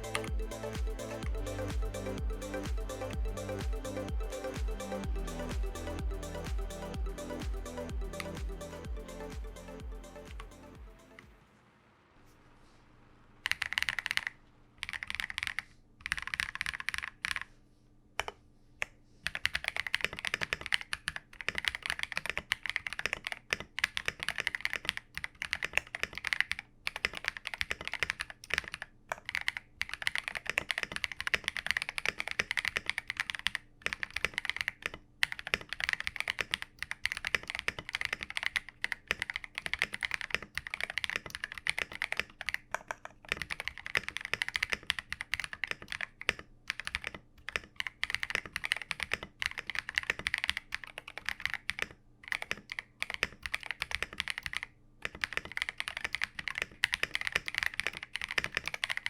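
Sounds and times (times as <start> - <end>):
mechanical keyboard typing: 0.0 - 11.1, 13.4 - 17.5, 19.2 - 59.0.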